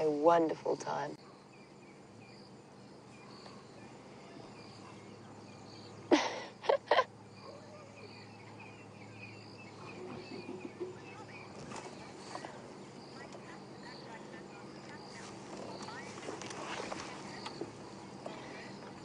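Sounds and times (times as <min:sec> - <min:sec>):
birds chirping: 0:00.0 - 0:19.0
insects chirping: 0:00.0 - 0:19.0.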